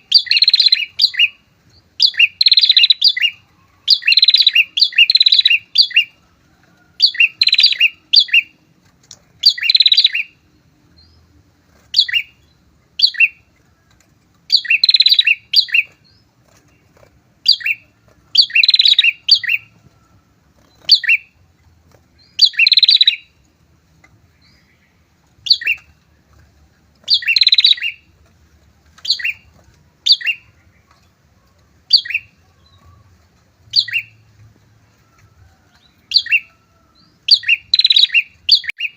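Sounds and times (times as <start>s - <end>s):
birds chirping sharply: 0.0s - 6.2s, 7.0s - 38.9s.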